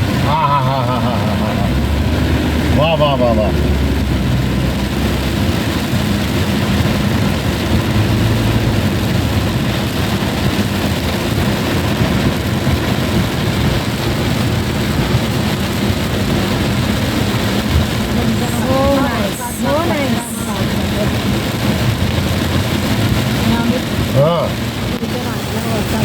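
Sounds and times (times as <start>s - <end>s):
low engine hum: 0.0s - 26.0s
tyre and road noise on wet road: 0.0s - 26.0s.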